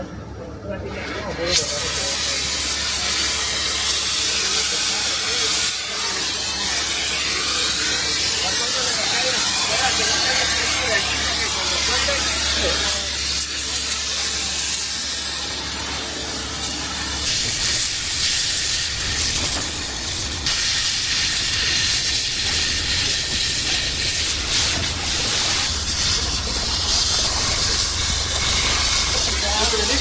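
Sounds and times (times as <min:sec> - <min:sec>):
steady hiss: 0:01.6 - 0:30.0
diesel engine rumbling: 0:01.7 - 0:30.0.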